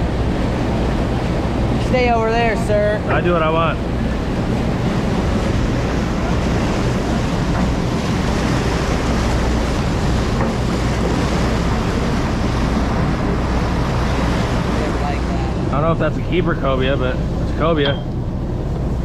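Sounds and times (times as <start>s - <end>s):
boat machinery drone: 0.0s - 19.0s
sea noise: 0.0s - 19.0s
wind on microphone: 0.0s - 19.0s.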